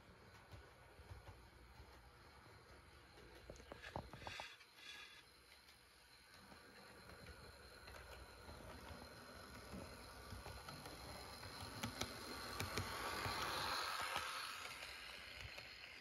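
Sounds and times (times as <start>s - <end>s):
model train motor whirring: 0.4s - 16.0s.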